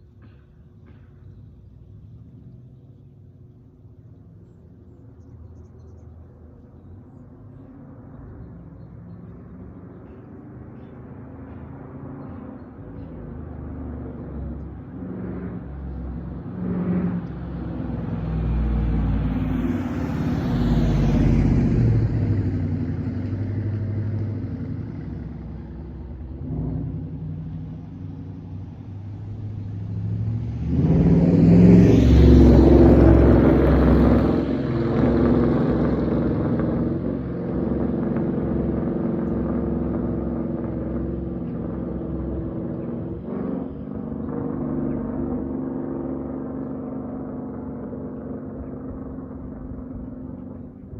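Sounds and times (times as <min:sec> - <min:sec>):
car exhaust rumble: 0:00.0 - 0:50.9.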